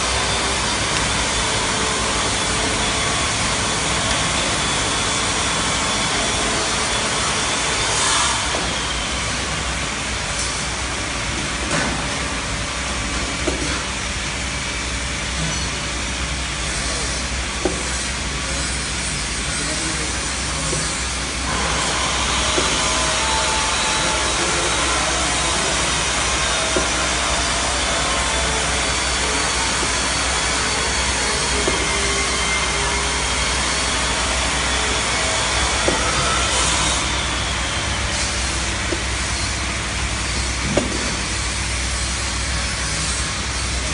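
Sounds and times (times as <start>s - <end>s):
machine humming and hissing: 0.0s - 43.9s.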